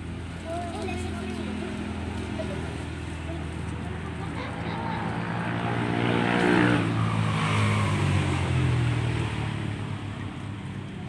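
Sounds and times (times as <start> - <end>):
vehicle engine passing: 0.0 - 11.0.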